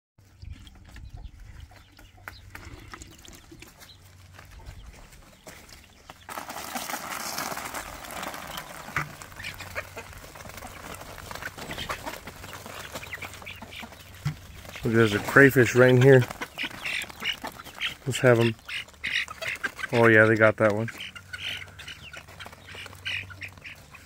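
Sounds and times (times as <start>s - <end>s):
chickens clucking: 0.2s - 24.0s.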